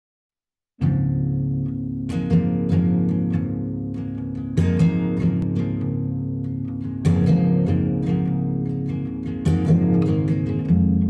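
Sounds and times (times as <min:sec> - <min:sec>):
slow guitar music: 0:00.8 - 0:11.0.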